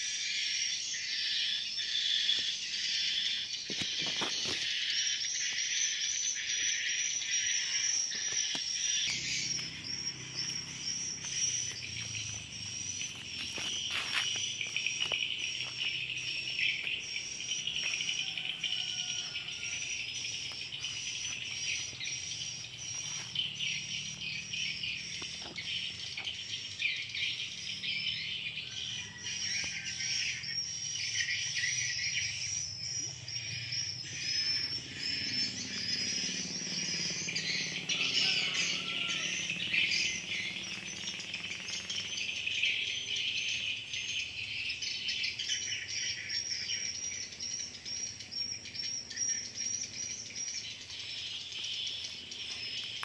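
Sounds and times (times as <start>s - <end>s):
birds chirping: 0.0s - 53.0s
insects buzzing: 0.0s - 53.0s.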